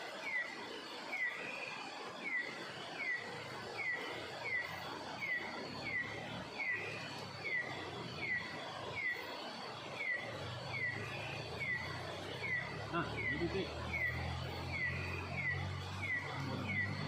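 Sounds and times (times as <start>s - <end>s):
bird chirping: 0.0s - 17.0s
faint steady high tone: 0.0s - 17.0s.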